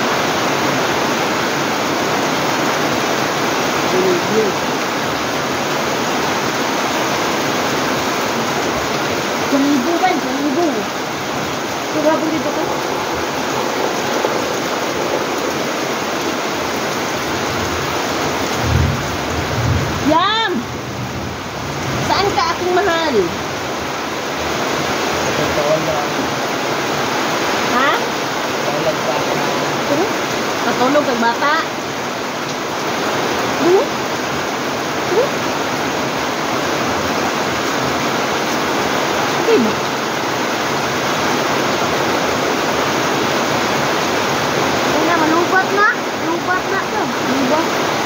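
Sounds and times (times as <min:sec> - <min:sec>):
heavy rain: 0:00.0 - 0:48.0.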